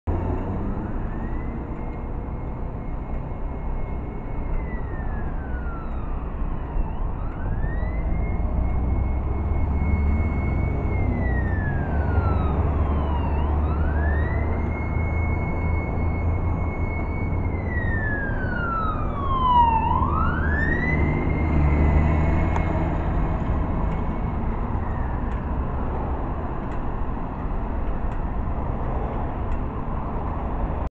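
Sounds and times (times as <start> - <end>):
road traffic rumble: 0.0 - 30.9
fire truck siren wailing: 0.1 - 30.9.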